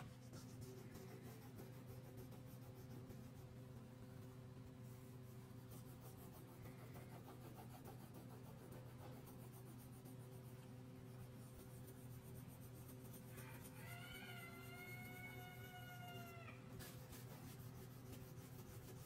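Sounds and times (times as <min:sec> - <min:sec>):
crayon scratching on paper: 0:00.0 - 0:03.8, 0:05.1 - 0:19.0
low electrical hum: 0:00.0 - 0:19.0.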